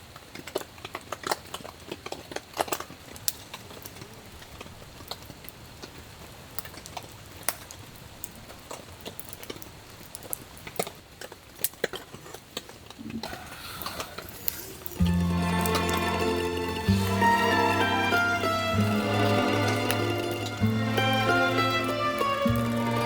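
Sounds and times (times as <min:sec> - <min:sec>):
campfire crackling: 0:00.4 - 0:23.0.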